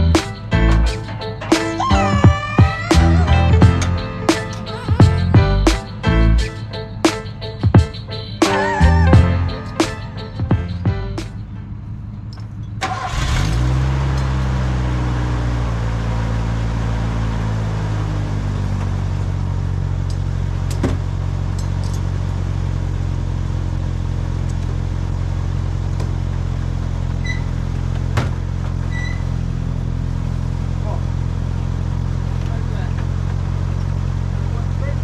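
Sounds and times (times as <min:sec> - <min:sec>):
pickup truck engine starting and idling: 0:00.0 - 0:35.0.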